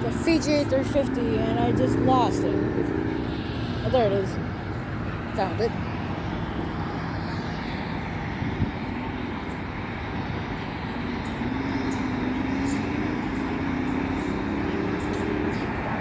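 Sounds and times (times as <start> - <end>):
distant jet engine rumble: 0.0 - 16.0
low hum rising in pitch: 0.0 - 16.0.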